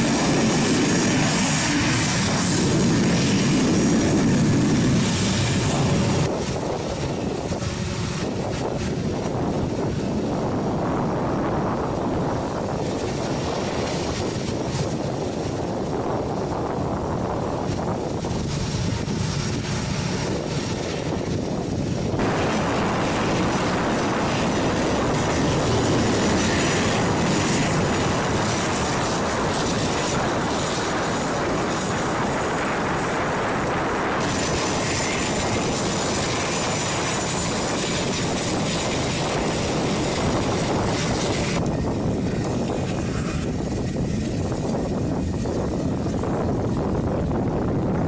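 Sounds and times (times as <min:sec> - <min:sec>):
jet engines rushing with whine: 0:00.0 - 0:48.0.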